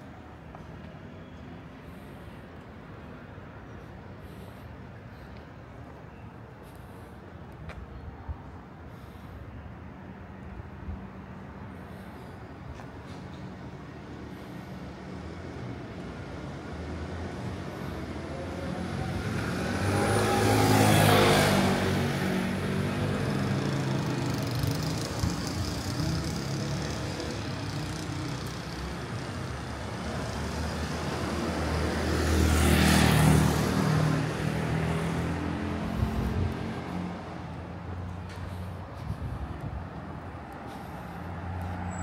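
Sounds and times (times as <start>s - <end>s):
city street traffic: 0.0s - 42.0s
vehicles passing close by: 0.0s - 42.0s.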